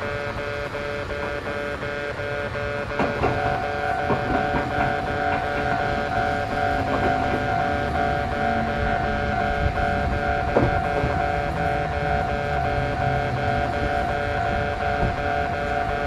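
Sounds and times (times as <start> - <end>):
level crossing alarm dinging: 0.0 - 16.0.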